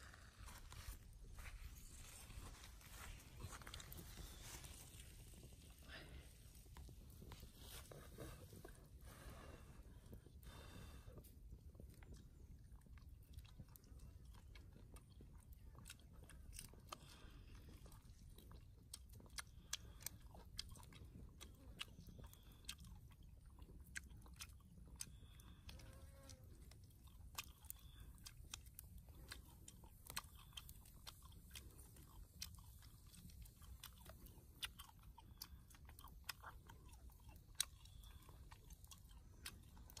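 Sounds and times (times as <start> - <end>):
person chewing and crunching: 0.0 - 40.0.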